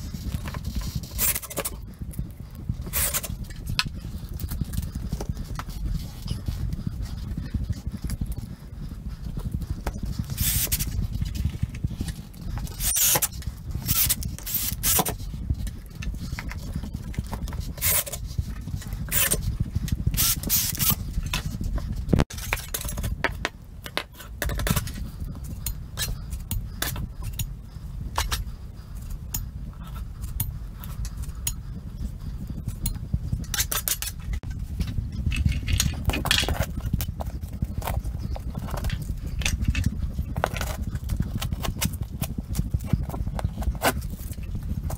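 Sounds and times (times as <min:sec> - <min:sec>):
steady low rumble: 0:00.0 - 0:44.9.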